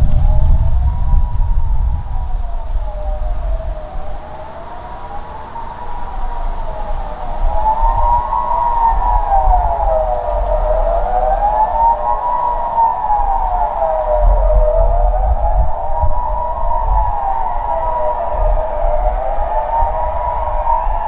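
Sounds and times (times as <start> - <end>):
electronic sirens wailing: 0.0 - 21.0.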